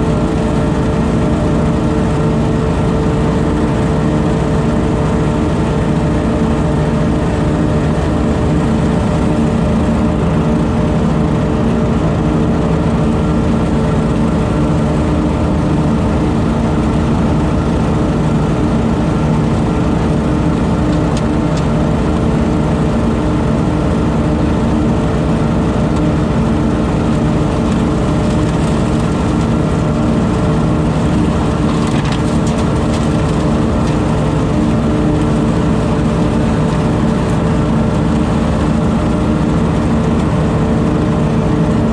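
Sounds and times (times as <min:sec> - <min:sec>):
leaf vacuum engine running: 0:00.0 - 0:41.9.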